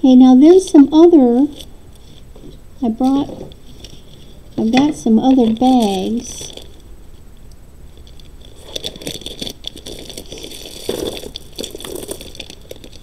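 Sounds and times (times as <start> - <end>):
plastic bag crinkling: 1.5 - 6.9, 7.9 - 13.0.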